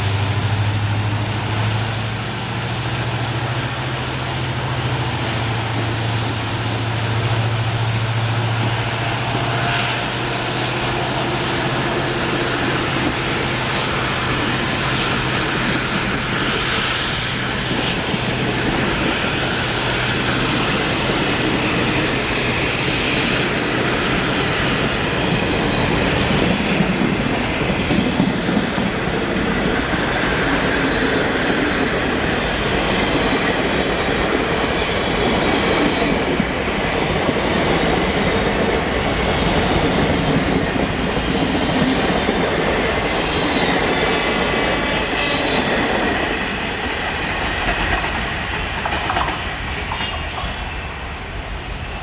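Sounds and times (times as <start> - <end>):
train wheels clattering over rail joints: 4.2 - 50.6.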